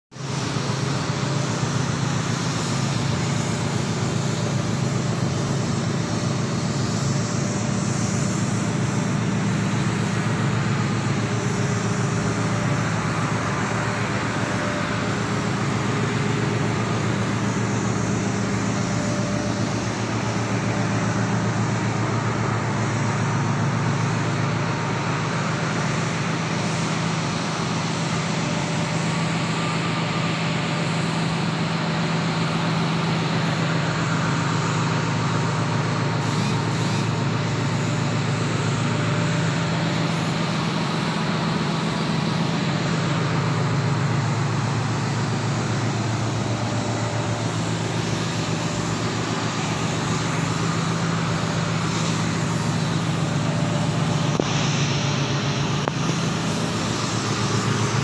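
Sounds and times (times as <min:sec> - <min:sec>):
ship machinery droning: 0:00.2 - 0:58.0.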